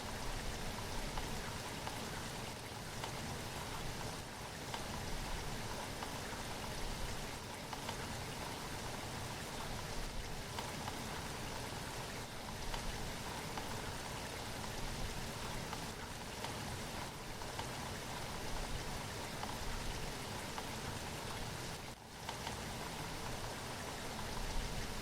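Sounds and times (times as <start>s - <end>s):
raindrops tapping on surface: 0.0s - 25.0s
steady rain hiss: 0.0s - 25.0s.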